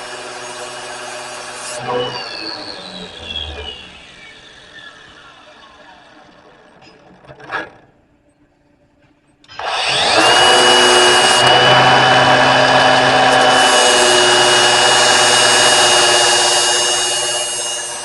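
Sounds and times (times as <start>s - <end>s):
electric grinder grinding steel: 0.0s - 6.5s, 9.5s - 18.0s.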